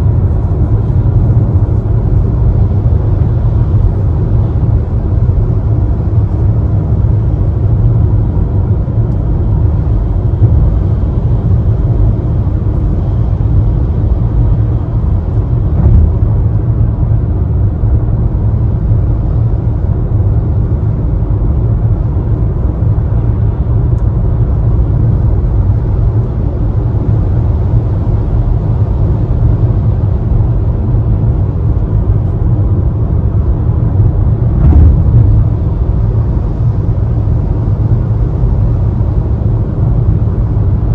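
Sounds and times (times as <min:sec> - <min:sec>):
car road rumble on wet road: 0:00.0 - 0:40.9.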